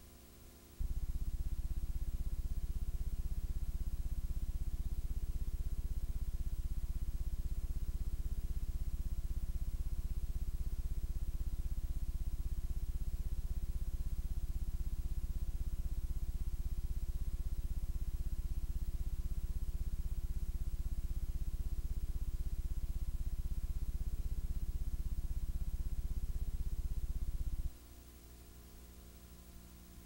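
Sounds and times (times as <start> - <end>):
low electrical hum: 0.0 - 30.0
rapid buzzing pulse: 0.8 - 27.8.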